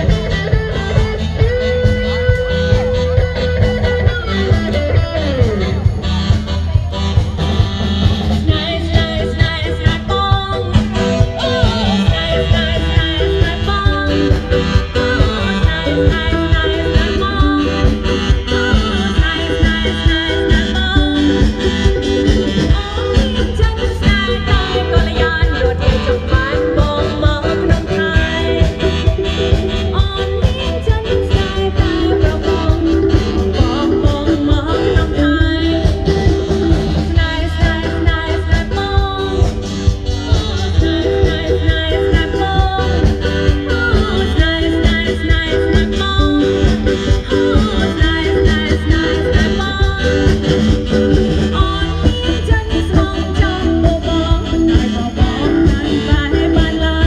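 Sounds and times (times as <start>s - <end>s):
music with beat and bass: 0.0s - 57.0s
person singing: 8.2s - 57.0s.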